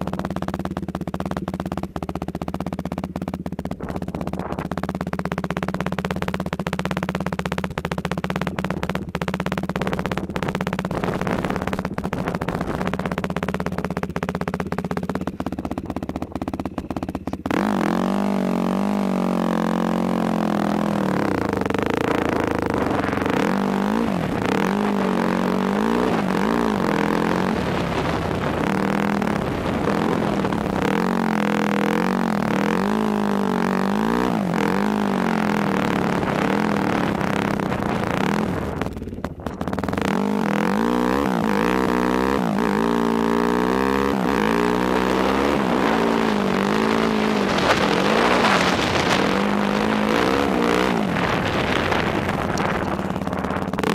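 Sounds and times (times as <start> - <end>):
quad engine revving: 0.0 - 53.9.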